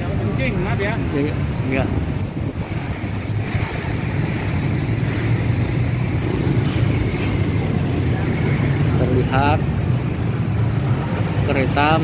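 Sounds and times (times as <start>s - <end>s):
floodwater rushing: 1.4s - 11.4s.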